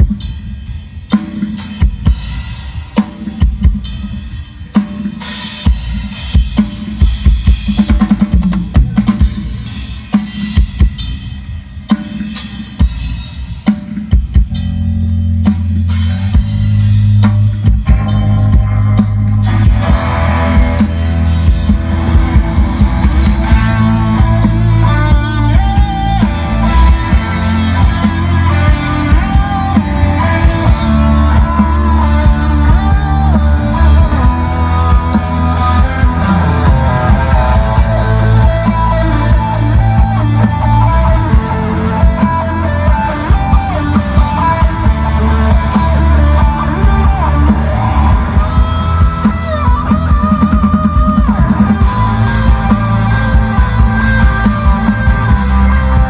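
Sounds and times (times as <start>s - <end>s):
rock music over loudspeakers: 0.0s - 56.0s.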